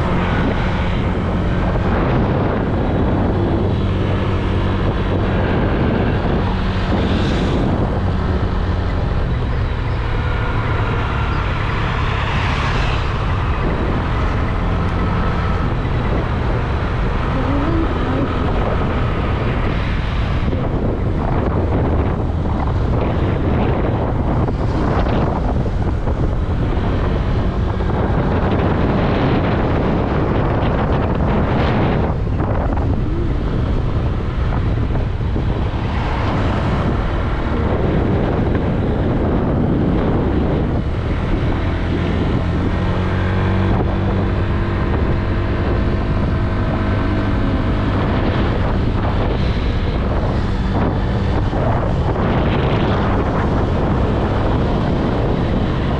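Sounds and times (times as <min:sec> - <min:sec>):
scooter engine hum: 0:00.0 - 0:55.9
wind on microphone: 0:00.0 - 0:55.9.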